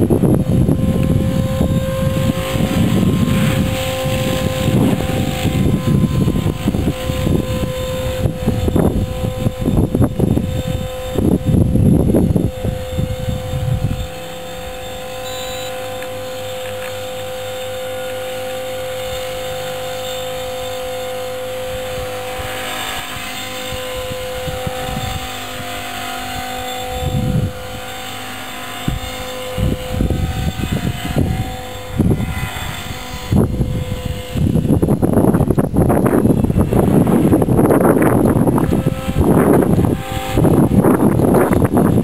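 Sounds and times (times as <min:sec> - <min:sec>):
model aircraft motor whine: 0:00.0 - 0:42.0
wind buffeting microphone: 0:00.0 - 0:42.0.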